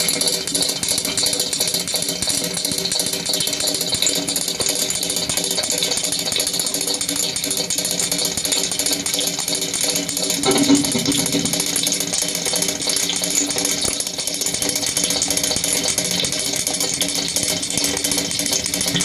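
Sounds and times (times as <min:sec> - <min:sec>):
rapid mechanical rattling: 0:00.0 - 0:19.0.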